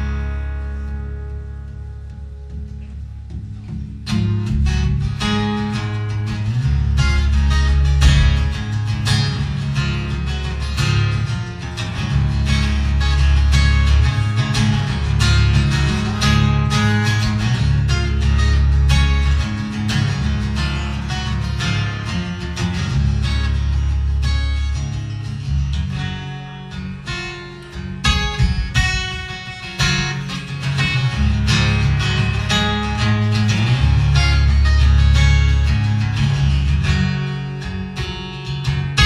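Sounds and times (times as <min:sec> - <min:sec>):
solo acoustic guitar: 0:00.0 - 0:39.0.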